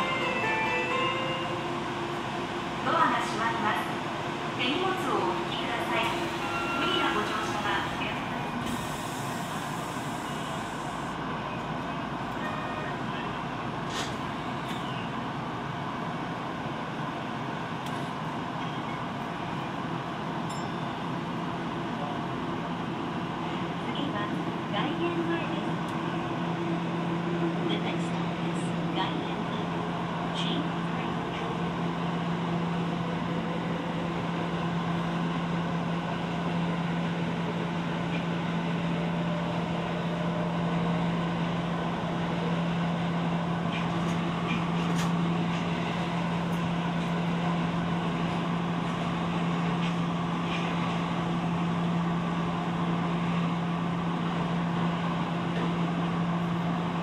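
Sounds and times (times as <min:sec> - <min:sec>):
subway train rumbling in a tunnel: 0:00.0 - 0:57.0.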